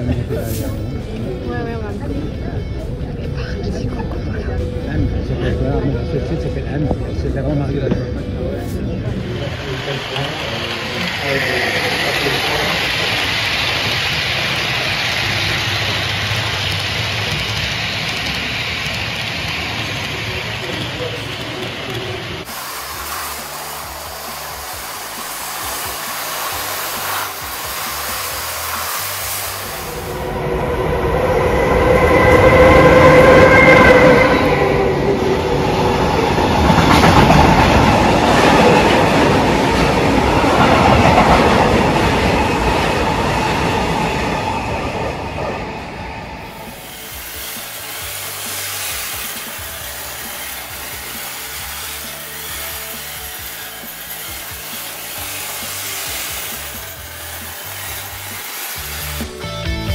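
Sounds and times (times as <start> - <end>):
freight wagons rumbling: 0.0 - 55.5
wheels clacking on rails: 6.8 - 59.9.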